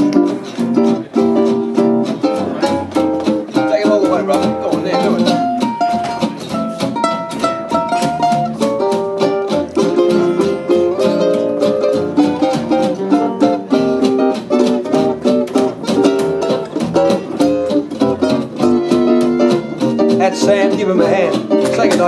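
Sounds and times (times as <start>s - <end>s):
strummed chord accompaniment: 0.0s - 22.0s
ukulele picked melody: 0.0s - 22.0s.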